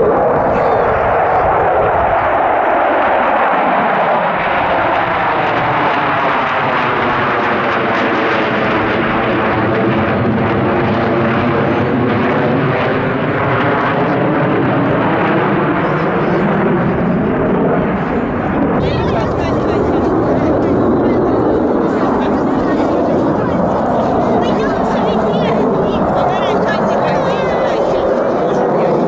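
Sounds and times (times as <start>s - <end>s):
fighter jets roaring overhead: 0.0s - 29.0s.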